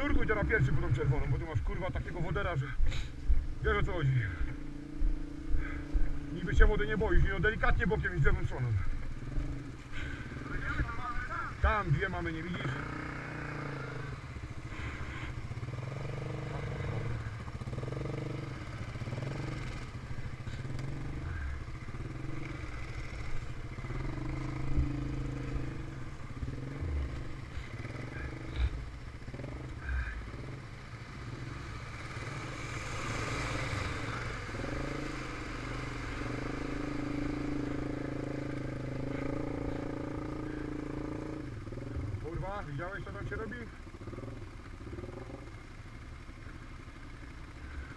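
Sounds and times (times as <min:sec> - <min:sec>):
quad bike engine under load: 0:08.8 - 0:47.9.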